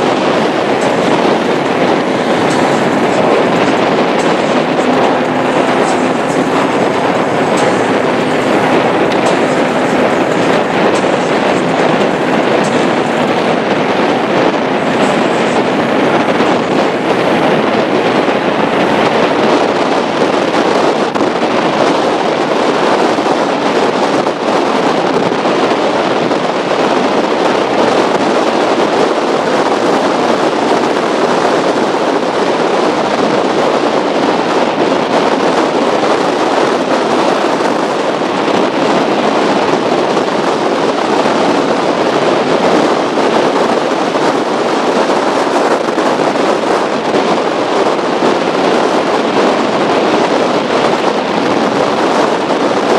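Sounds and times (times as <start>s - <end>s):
water rushing: 0.0s - 52.9s
wind blast on microphone: 0.0s - 52.9s.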